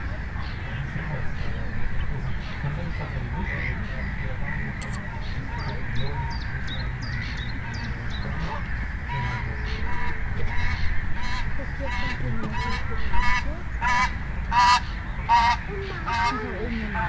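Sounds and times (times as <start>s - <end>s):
geese honking: 0.0s - 17.0s
small birds chirping: 0.0s - 17.0s.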